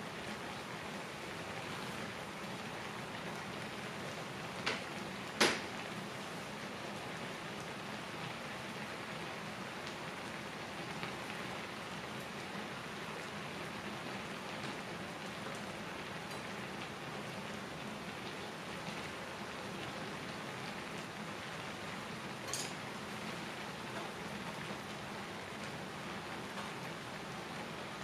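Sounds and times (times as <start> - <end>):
broth bubbling in pan: 0.0 - 28.0.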